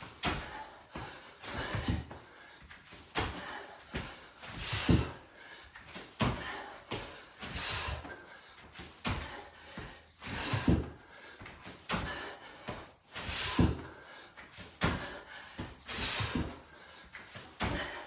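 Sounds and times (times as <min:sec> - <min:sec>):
thuds of hands and feet on mat: 0:00.0 - 0:18.0.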